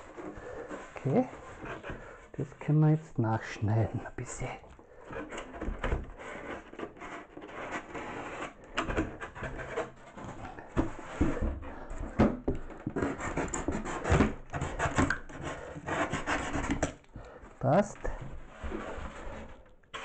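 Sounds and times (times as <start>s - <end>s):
knife scraping foam board: 0.0s - 3.1s, 3.7s - 20.0s.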